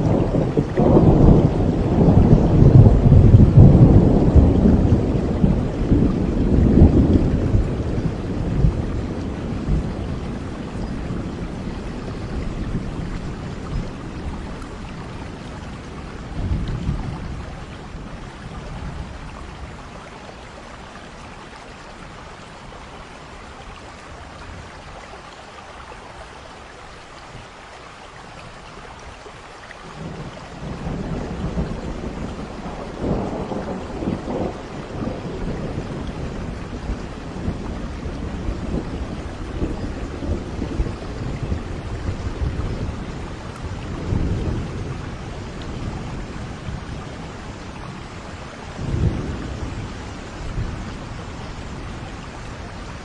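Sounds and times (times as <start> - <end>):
rolling thunder: 0.0 - 19.9, 30.0 - 53.0
rain hissing: 0.0 - 53.0.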